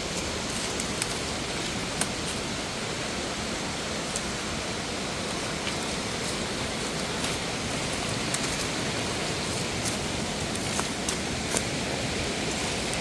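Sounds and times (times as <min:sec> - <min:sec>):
water cascading over rocks: 0:00.0 - 0:13.0.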